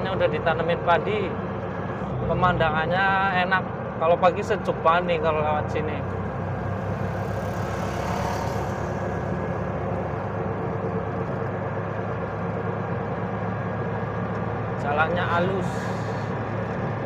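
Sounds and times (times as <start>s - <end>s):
auto-rickshaw engine hum: 0.0s - 17.0s
road and wind noise: 0.0s - 17.0s.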